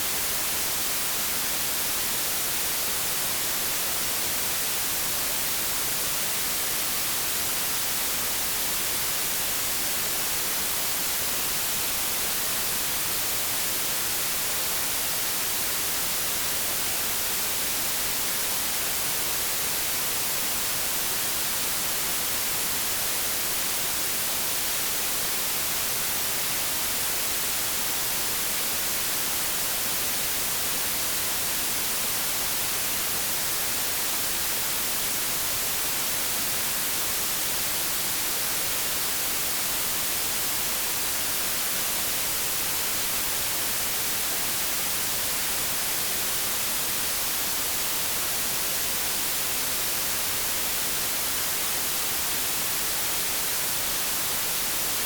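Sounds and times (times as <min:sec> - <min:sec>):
white noise static hiss: 0:00.0 - 0:55.0.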